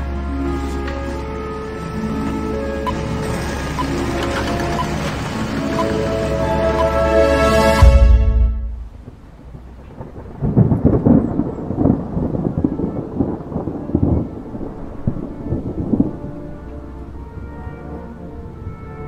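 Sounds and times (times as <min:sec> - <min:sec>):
falling rain: 0:00.0 - 0:19.0
thunder rumbling: 0:01.5 - 0:19.0.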